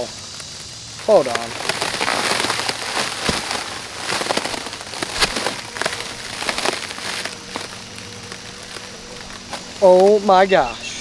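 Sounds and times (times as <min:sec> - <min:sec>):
plastic wrap crinkling: 0:00.0 - 0:10.3.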